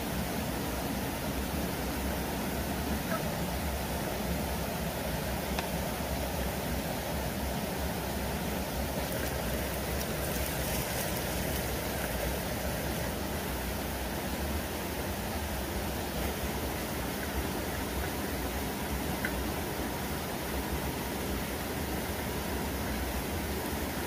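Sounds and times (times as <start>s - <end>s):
flowing stream water: 0.0s - 24.0s.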